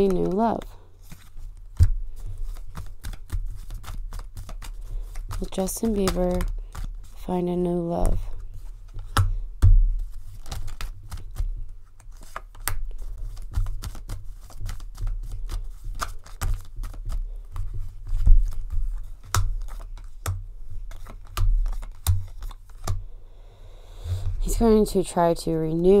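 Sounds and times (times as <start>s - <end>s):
cards being shuffled: 0.0s - 23.0s.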